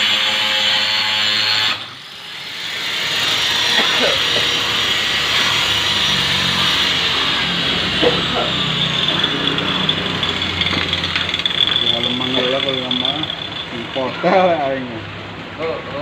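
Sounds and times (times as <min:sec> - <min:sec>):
angle grinder cutting plywood: 0:00.0 - 0:14.4.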